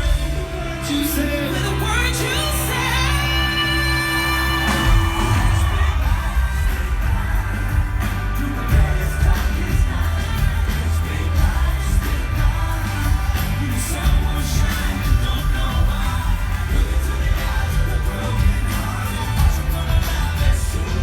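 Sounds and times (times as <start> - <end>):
heavy bass line: 0.0 - 21.0
pop music with singing: 0.0 - 21.0.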